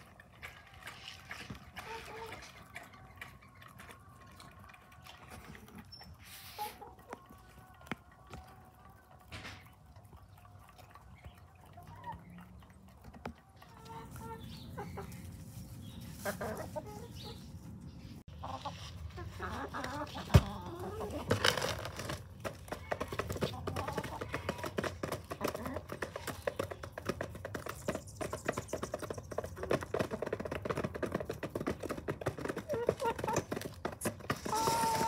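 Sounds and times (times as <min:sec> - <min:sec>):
beaks pecking rice from plastic tub: 0:00.0 - 0:17.0, 0:19.5 - 0:35.0
hens clucking: 0:00.0 - 0:35.0.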